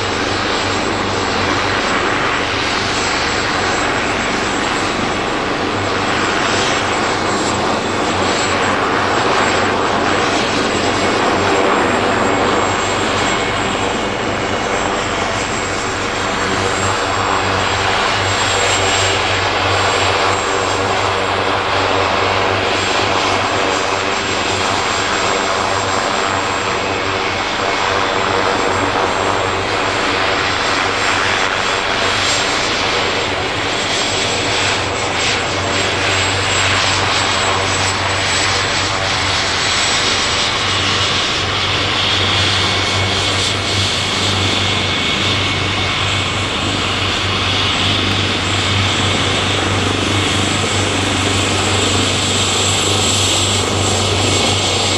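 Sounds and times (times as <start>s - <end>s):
helicopter rotor hum and rush: 0.0s - 54.9s
helicopter turbine whine: 0.0s - 54.9s.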